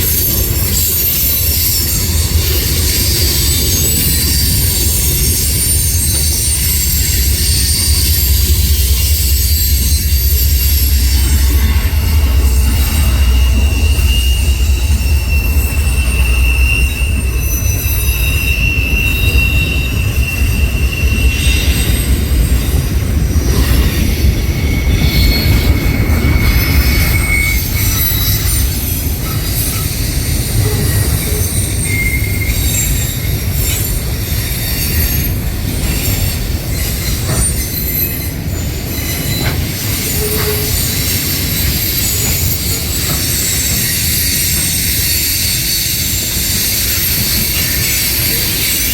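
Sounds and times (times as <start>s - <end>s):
train rolling past: 0.0s - 48.9s
wheels squealing on rails: 0.0s - 48.9s.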